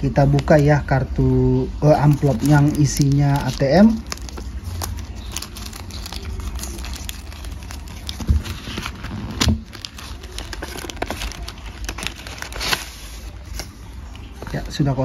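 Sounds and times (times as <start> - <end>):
paper envelope crinkling and tearing: 1.8 - 15.0.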